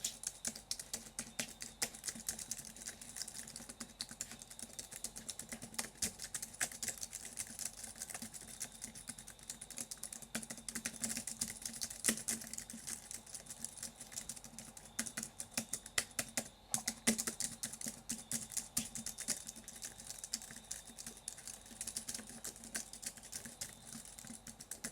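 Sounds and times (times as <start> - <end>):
rapid irregular clicking: 0.0 - 24.9.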